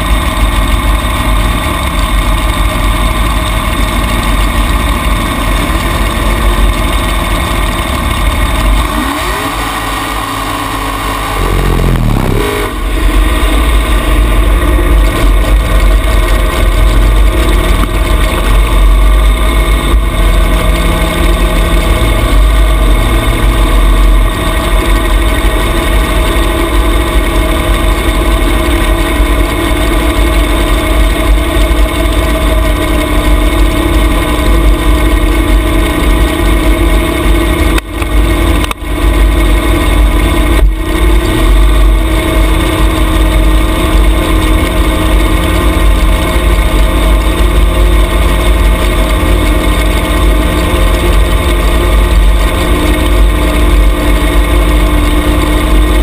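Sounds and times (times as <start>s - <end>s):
dragster engine running: 0.0s - 56.0s.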